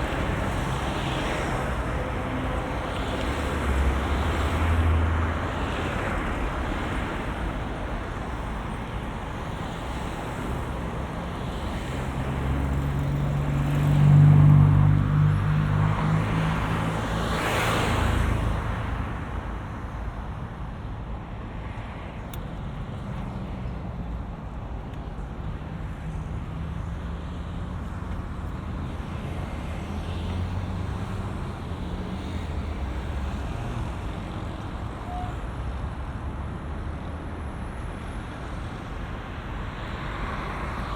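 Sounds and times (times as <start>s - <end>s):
road traffic hum: 0.0s - 40.9s.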